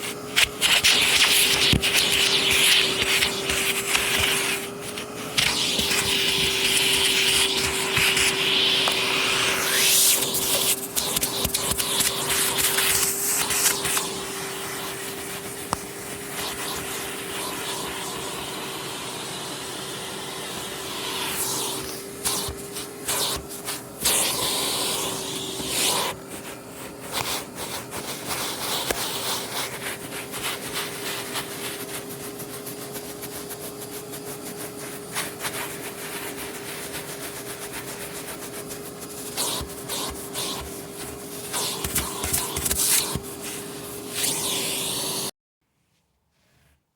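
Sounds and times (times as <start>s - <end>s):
vacuum cleaner on carpet: 0.0s - 45.3s.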